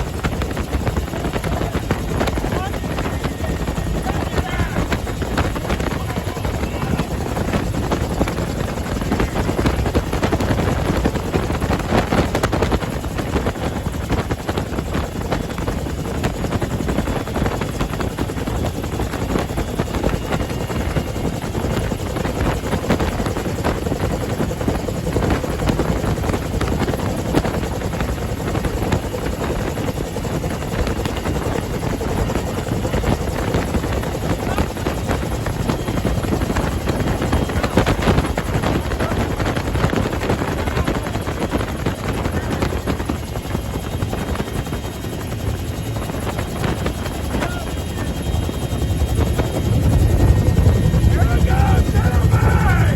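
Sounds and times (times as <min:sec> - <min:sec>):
helicopter turbine and rotor chop: 0:00.0 - 0:52.9.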